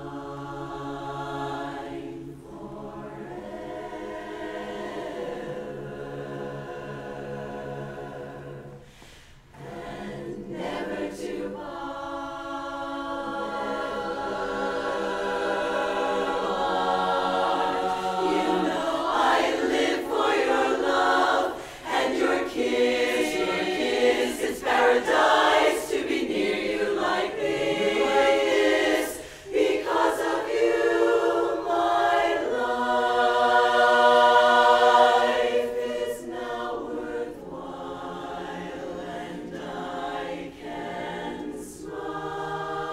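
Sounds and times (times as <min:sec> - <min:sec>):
women's chorus singing a cappella: 0:00.0 - 0:42.9.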